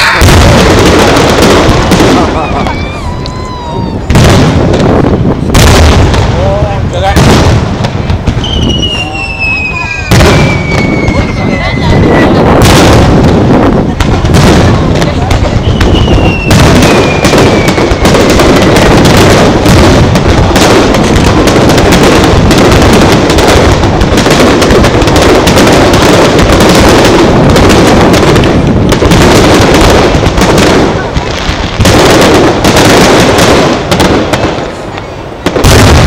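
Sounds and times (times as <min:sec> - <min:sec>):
fireworks bursting and crackling: 0:00.0 - 0:36.0.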